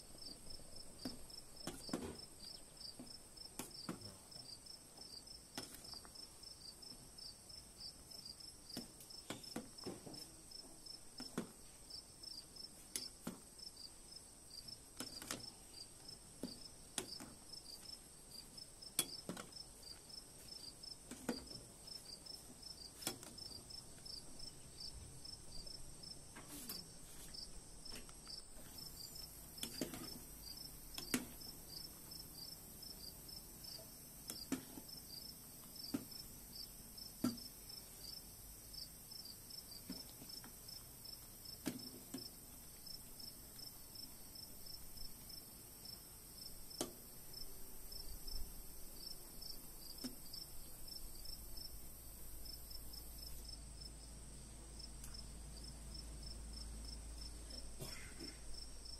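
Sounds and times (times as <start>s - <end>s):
insects chirping: 0.0s - 9.9s, 10.5s - 58.9s.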